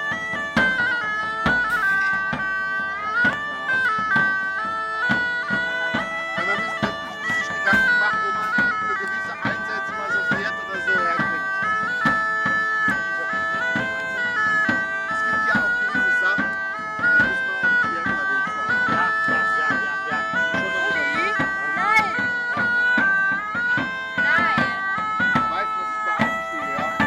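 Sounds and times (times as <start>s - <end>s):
bagpipe chanter melody: 0.0s - 27.0s
bagpipe drone: 0.0s - 27.0s.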